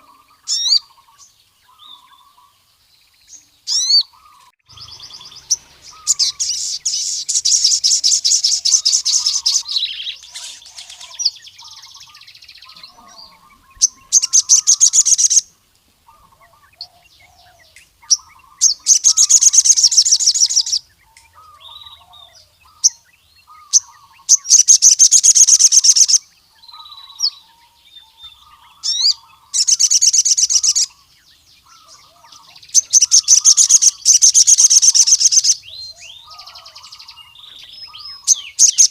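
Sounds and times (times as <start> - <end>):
bird trilling: 0.0 - 2.6, 3.7 - 15.5, 16.1 - 38.9
soft bird chirps: 0.0 - 38.9.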